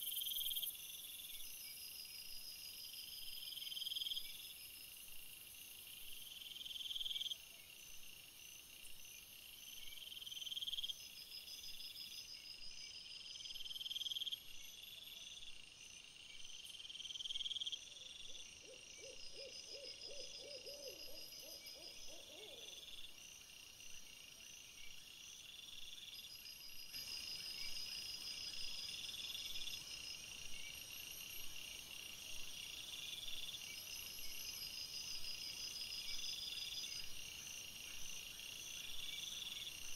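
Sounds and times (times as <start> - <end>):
crickets chirping: 0.0 - 39.9
low rapid pulsed insect calls: 0.0 - 39.9.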